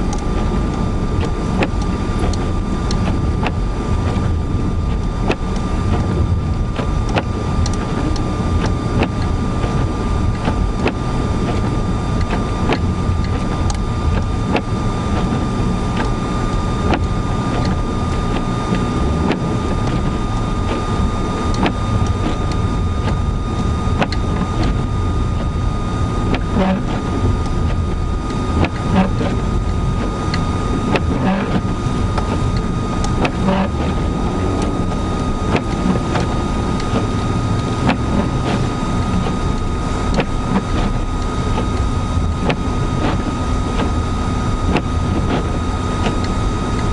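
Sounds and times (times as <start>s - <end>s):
car rumbling through snow: 0.0s - 46.9s
thin steady whine: 0.0s - 46.9s.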